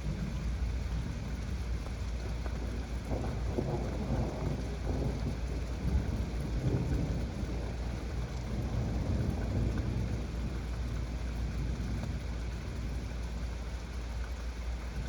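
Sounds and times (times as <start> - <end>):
continuous low rumble: 0.0 - 15.0
heavy rain falling: 0.0 - 15.0.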